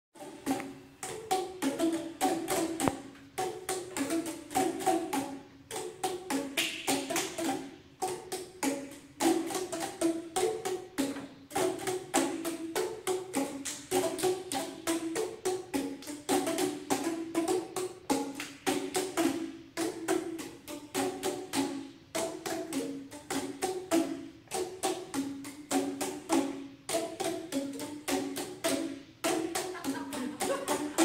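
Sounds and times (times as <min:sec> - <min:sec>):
hollow pitched knocks of percussion tubes: 0:00.1 - 0:31.0.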